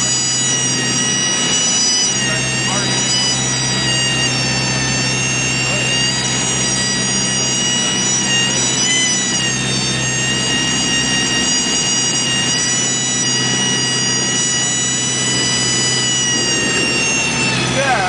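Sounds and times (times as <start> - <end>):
propeller aircraft engine droning: 0.0 - 18.0.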